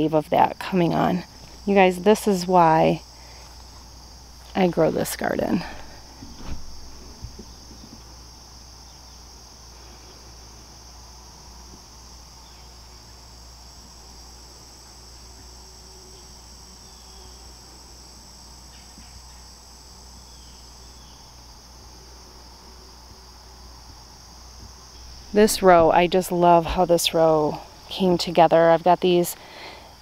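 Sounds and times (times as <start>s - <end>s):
crickets trilling: 0.0s - 30.0s
high thin insect tone: 0.0s - 30.0s.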